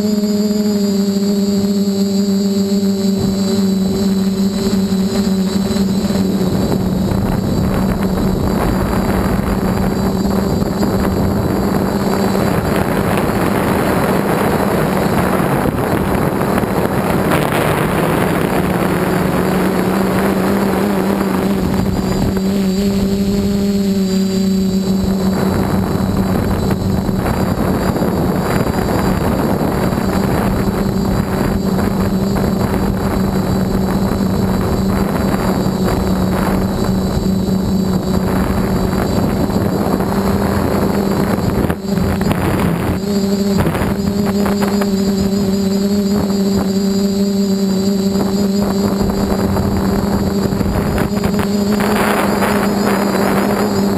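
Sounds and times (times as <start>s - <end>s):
quadcopter motors humming: 0.0s - 53.9s
wind on microphone: 0.0s - 53.9s.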